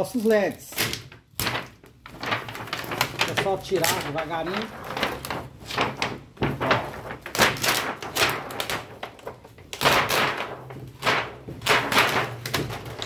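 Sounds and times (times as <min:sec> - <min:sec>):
plastic sheet crackling: 0:00.0 - 0:13.0.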